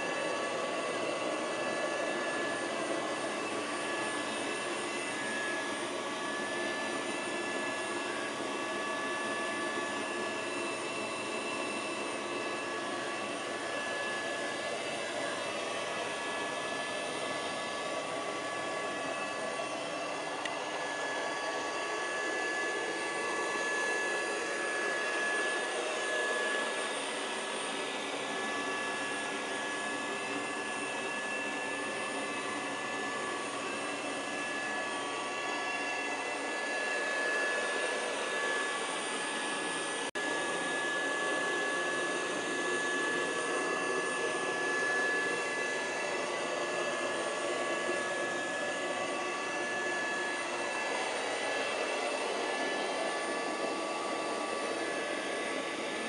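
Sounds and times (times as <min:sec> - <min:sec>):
robot vacuum cleaner whirring: 0:00.0 - 0:56.0.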